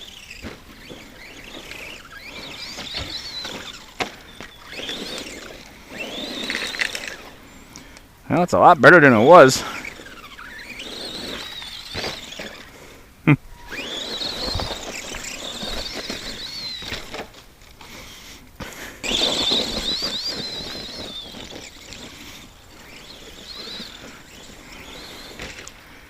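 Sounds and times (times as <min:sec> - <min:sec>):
rc truck motor whining: 0:00.0 - 0:08.2, 0:08.9 - 0:26.0
tires hissing on dirt: 0:00.0 - 0:26.0.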